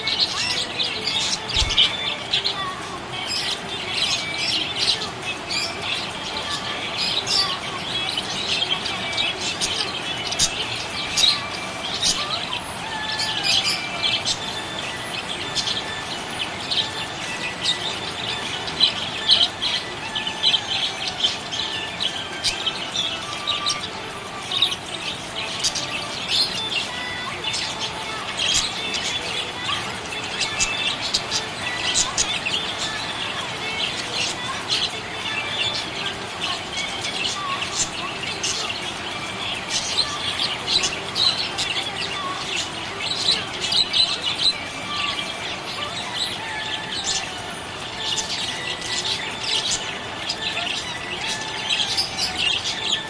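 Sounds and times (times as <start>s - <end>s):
budgerigars chirping: 0.0s - 53.0s.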